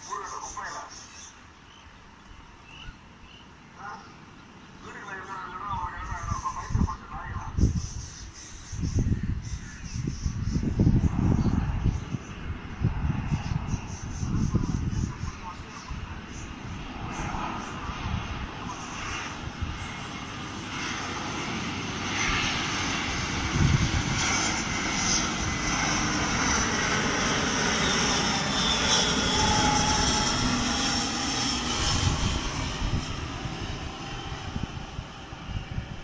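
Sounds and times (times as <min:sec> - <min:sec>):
jet airliner passing overhead: 0:00.0 - 0:36.0.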